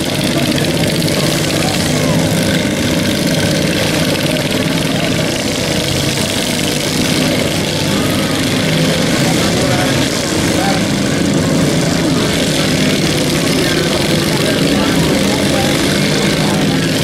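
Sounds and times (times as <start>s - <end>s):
riding lawn mower engines droning: 0.0s - 17.0s.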